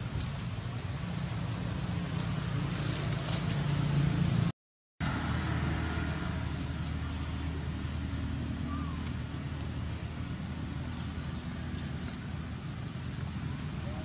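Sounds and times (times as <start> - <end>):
distant motor drone: 0.5 - 14.0.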